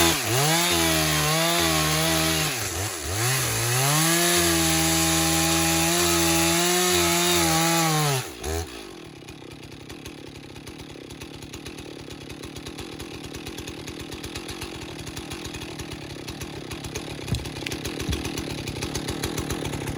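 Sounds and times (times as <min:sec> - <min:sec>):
chainsaw engine revving and idling: 0:00.0 - 0:19.9.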